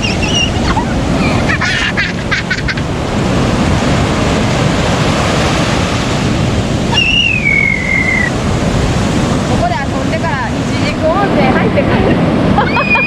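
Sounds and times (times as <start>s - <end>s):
surf breaking and washing ashore: 0.0s - 13.0s
wind on microphone: 0.0s - 13.0s.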